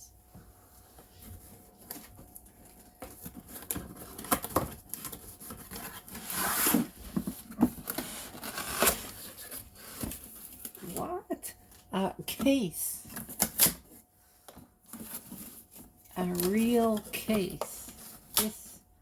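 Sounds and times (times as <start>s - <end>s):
cardboard box rustling: 1.0s - 10.9s, 13.0s - 18.6s.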